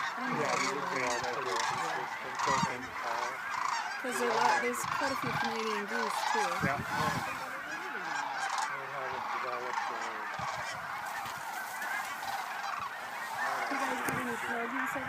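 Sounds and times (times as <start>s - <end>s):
crane calls: 0.0s - 15.0s
geese honking: 0.0s - 15.0s.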